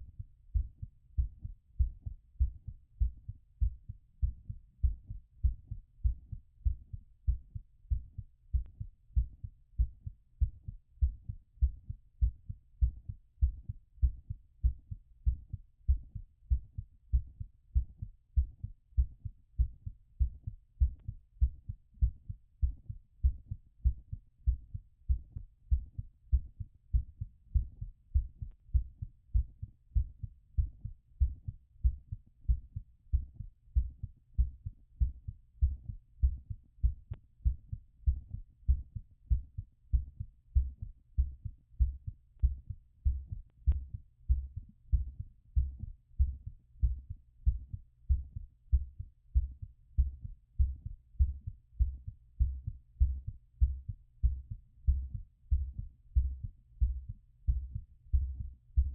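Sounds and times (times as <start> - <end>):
heartbeat through stethoscope: 0.0 - 58.9.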